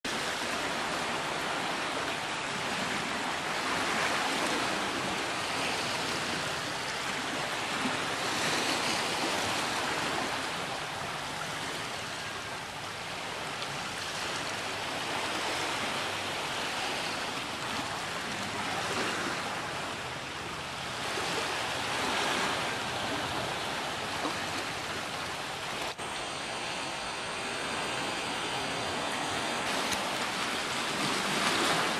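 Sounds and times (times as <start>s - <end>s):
sea surf washing on shore: 0.1s - 31.9s.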